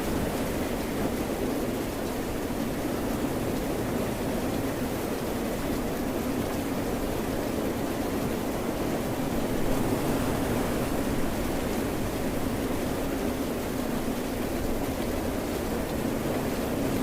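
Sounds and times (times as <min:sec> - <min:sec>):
ocean surf: 0:00.0 - 0:05.6, 0:06.4 - 0:17.0
rain: 0:00.0 - 0:17.0.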